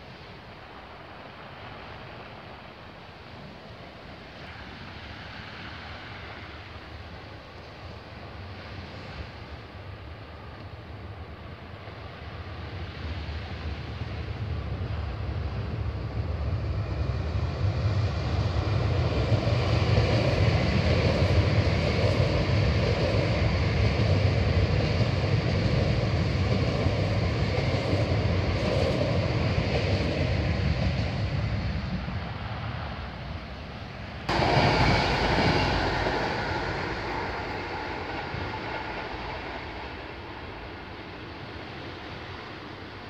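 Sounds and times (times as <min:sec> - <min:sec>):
electric train passing: 0:00.0 - 0:43.0.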